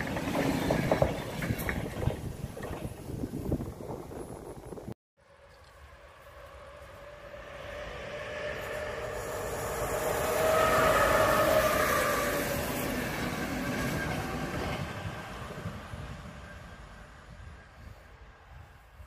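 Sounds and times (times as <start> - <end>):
train wheels rumbling on rails: 0.0 - 4.9, 5.6 - 18.2.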